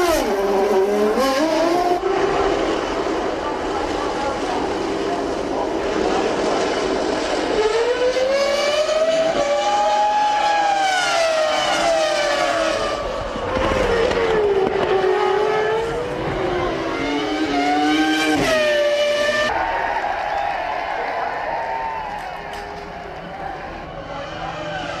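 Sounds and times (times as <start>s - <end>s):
racing car engine at speed: 0.0s - 19.6s, 20.7s - 25.0s.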